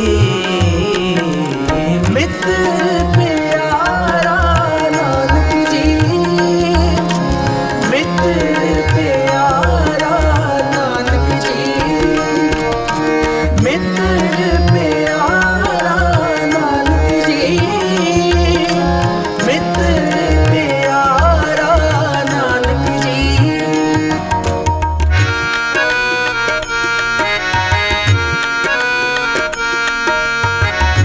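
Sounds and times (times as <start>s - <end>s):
harmonium tones: 0.0s - 31.0s.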